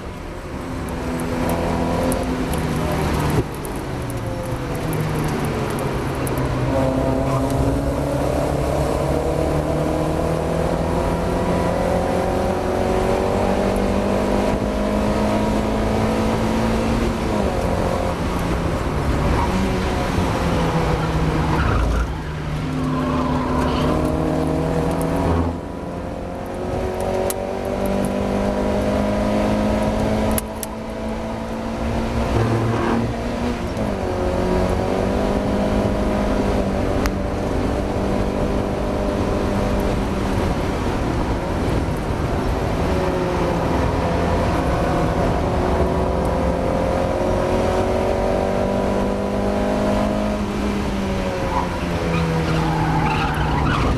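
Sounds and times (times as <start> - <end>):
car engine revving: 0.8 - 53.9.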